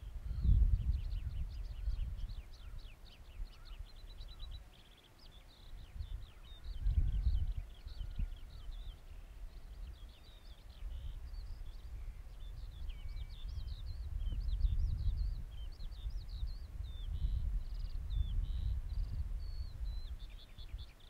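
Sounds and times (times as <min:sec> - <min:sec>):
wind on microphone: 0:00.0 - 0:04.7, 0:05.6 - 0:21.0
songbirds chirping: 0:00.0 - 0:21.0.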